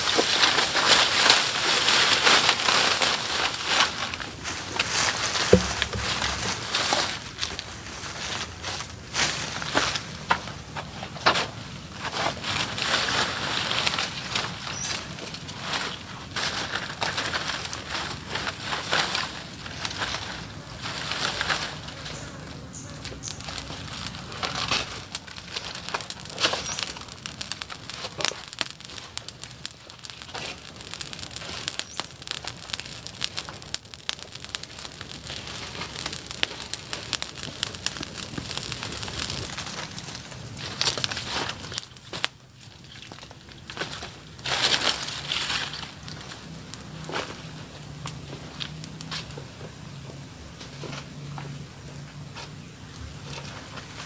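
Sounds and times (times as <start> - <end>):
dry twigs and leaves rustling: 0.0 - 54.0
small twig fire crackling: 0.0 - 54.0.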